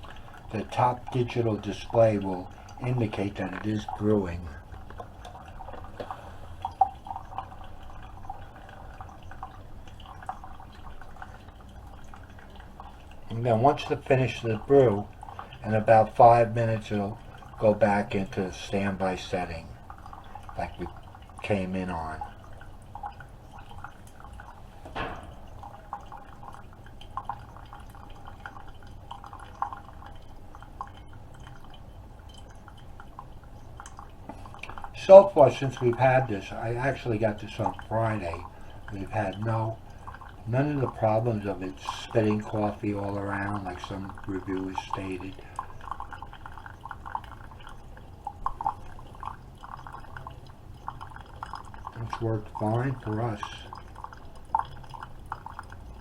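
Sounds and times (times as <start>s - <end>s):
coffee dripping into a mug: 0.0s - 56.0s
low steady hum: 0.0s - 56.0s.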